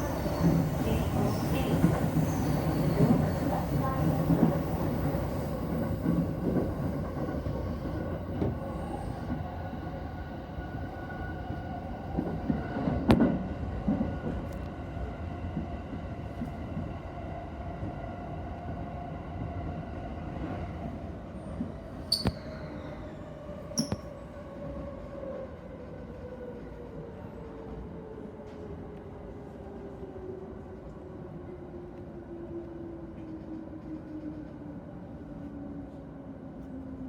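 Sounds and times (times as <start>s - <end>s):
train rumbling on track: 0.0s - 37.0s.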